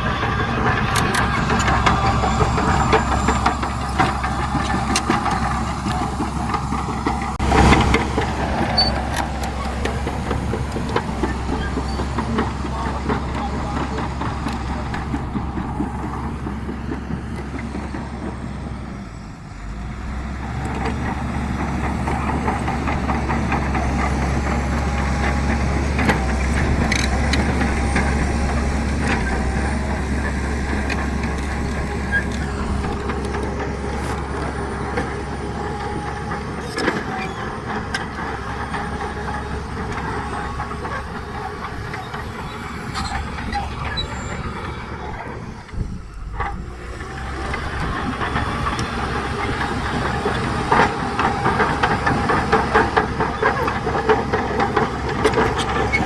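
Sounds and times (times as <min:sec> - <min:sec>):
diesel machinery droning: 0:00.0 - 0:56.0.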